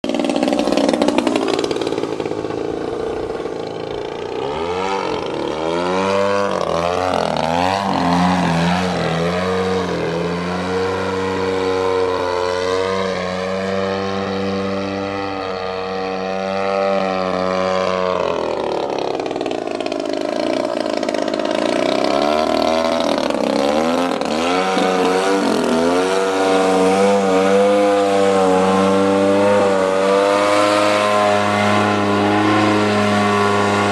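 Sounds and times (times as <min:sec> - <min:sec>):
model airplane motor and propeller: 0:00.0 - 0:33.9.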